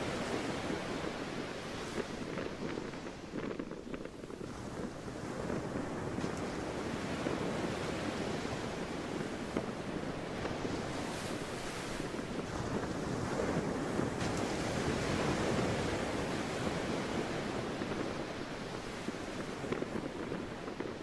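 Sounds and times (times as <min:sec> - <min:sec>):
sea waves washing in: 0:00.0 - 0:21.0.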